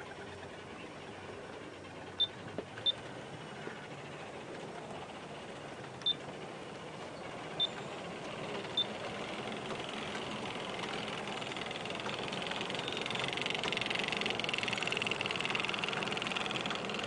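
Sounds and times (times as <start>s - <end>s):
model train motor whir: 0.0s - 17.0s.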